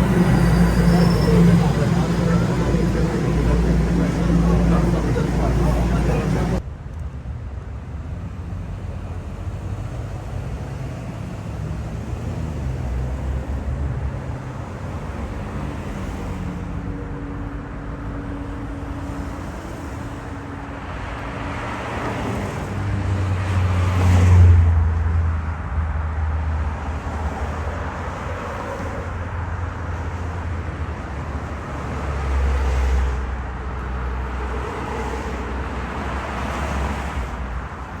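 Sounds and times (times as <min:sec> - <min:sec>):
background traffic noise: 0:00.0 - 0:38.0
vehicles passing: 0:00.0 - 0:38.0.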